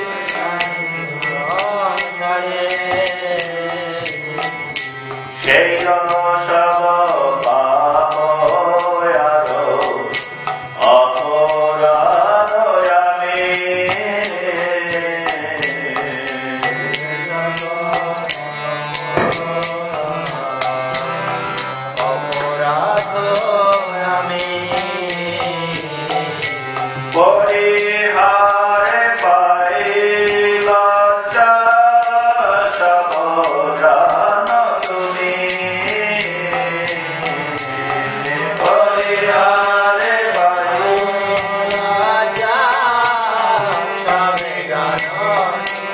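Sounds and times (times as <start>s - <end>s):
mantra chant sung to music: 0.0s - 45.9s
small percussion beat: 0.0s - 45.9s.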